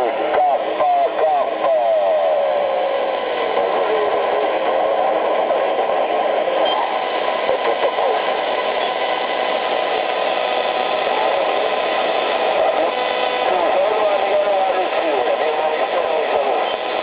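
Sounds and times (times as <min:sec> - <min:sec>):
shortwave radio static hiss: 0:00.0 - 0:17.0.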